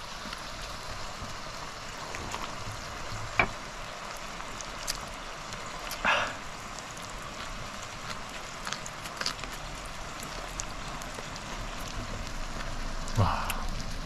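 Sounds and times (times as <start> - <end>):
fat crackling and popping: 0.0 - 14.0
meat sizzling on a grill: 0.0 - 14.0.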